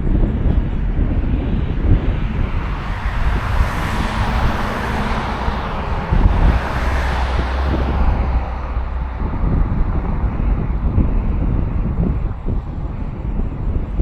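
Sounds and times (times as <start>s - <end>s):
low rumble: 0.0s - 14.0s
vehicle passing: 0.8s - 13.3s.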